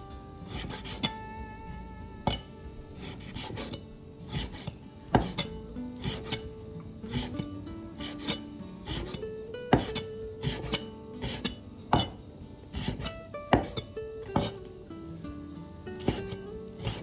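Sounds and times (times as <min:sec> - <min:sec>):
background music: 0:00.0 - 0:17.0
kitchen utensil scraping and knocking: 0:00.5 - 0:01.1, 0:02.3 - 0:14.7, 0:16.0 - 0:17.0.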